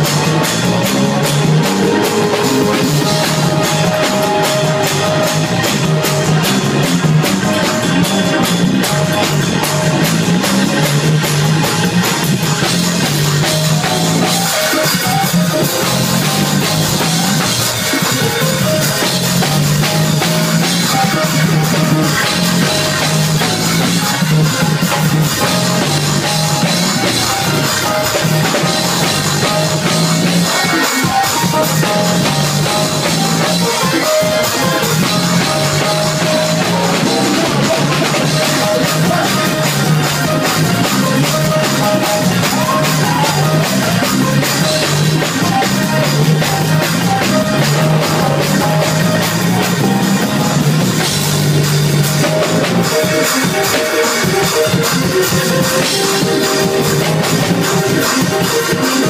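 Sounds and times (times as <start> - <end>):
drum kit and cymbals: 0.0 - 59.0
gospel band playing: 0.0 - 59.0
moving bass line: 0.0 - 59.0.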